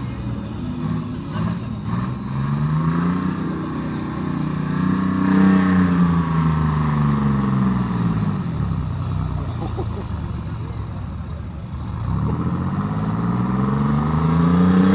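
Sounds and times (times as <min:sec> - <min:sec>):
tractor engine working hard: 0:00.0 - 0:14.9.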